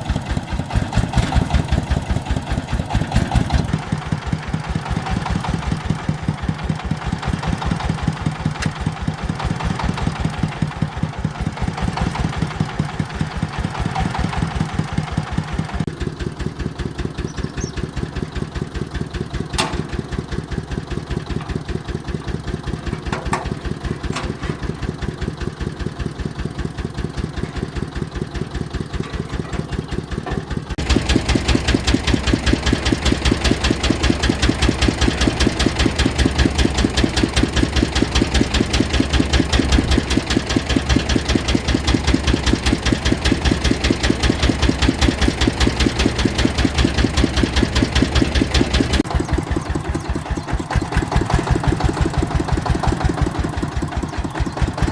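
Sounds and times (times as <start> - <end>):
farm machine engine knocking: 0.0 - 54.9.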